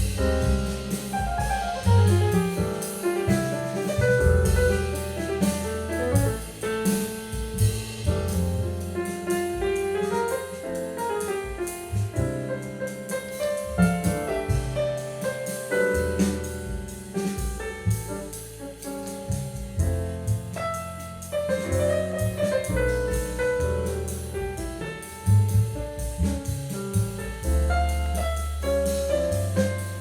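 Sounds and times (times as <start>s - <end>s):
piano jazz with bass and drums: 0.0s - 30.0s.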